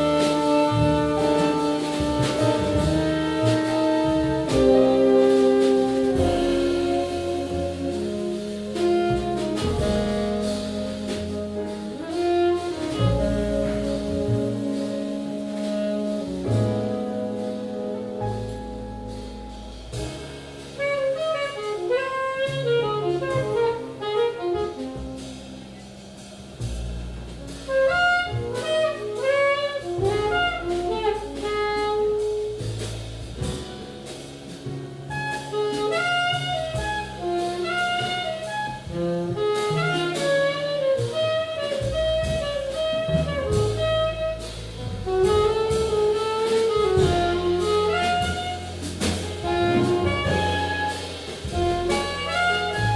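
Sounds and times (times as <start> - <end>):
saxophone melody: 0.0 - 18.2, 20.8 - 25.2, 27.7 - 32.6, 35.2 - 44.4, 45.0 - 52.9
double bass notes: 0.0 - 52.9
drum kit cymbal strokes: 0.0 - 52.9.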